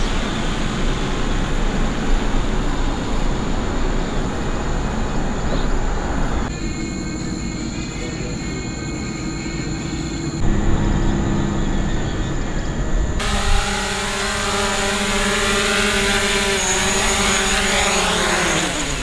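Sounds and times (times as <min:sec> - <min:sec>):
quadcopter drone whine: 0:00.0 - 0:19.0.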